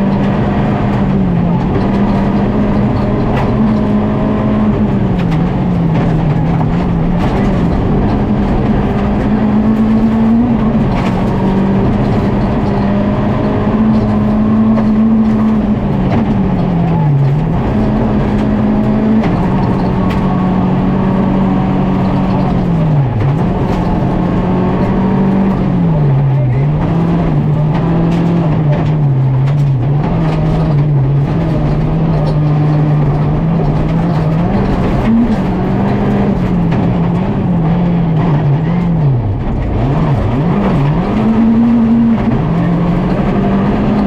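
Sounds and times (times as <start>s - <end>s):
rally car engine at full throttle: 0.0s - 44.0s.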